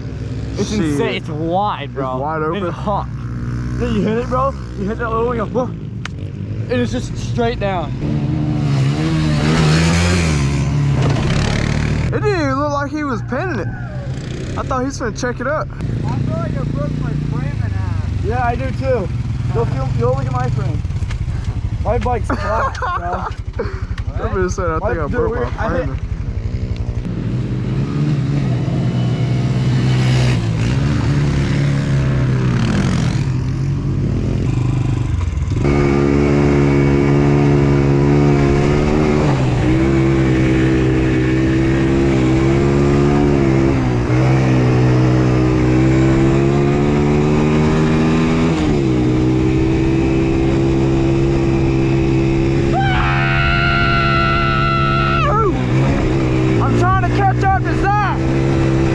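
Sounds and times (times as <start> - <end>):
off-road vehicle engine: 0.0 - 58.9.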